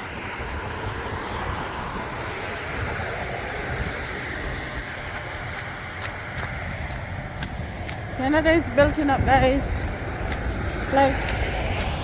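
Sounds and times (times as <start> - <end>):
blizzard wind rushing: 0.0 - 12.0
road traffic: 0.0 - 12.0
wind buffeting microphone: 0.0 - 12.0.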